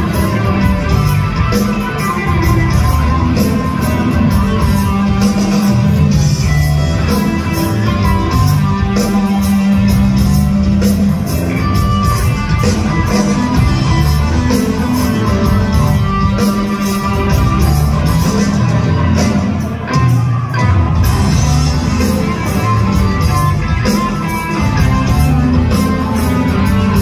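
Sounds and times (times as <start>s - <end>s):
bass guitar: 0.0s - 27.0s
drum kit beat: 0.0s - 27.0s
electric guitar: 0.0s - 27.0s.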